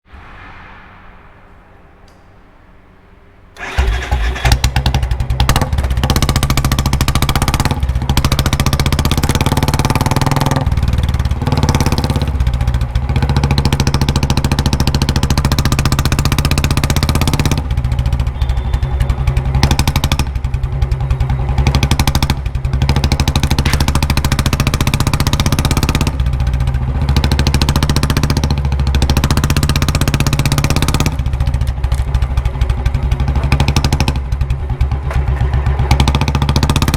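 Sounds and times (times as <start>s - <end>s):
motorcycle engine revving: 3.6s - 36.9s.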